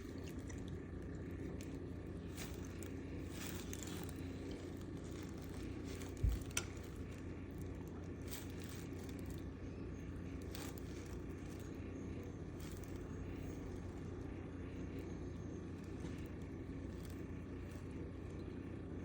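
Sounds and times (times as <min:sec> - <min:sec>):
faint scratches and rustles: 0:00.0 - 0:18.7
steady low hum: 0:00.0 - 0:19.0.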